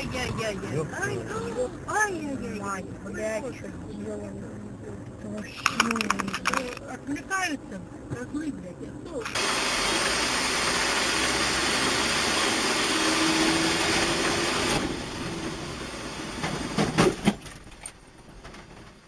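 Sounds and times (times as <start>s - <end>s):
loud vehicle noise: 0.0s - 17.2s.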